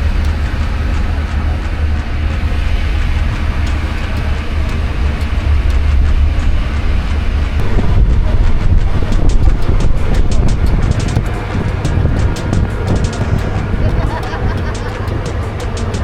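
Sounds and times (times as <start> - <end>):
boat engines rumbling: 0.0 - 16.0.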